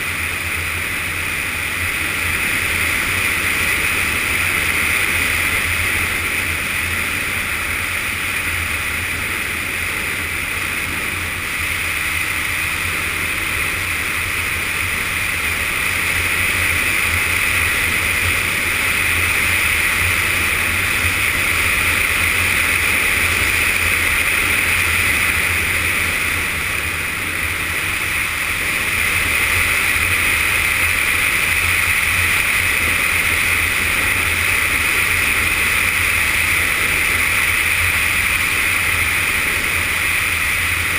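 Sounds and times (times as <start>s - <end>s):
motorcycle engine drone: 0.0s - 40.9s.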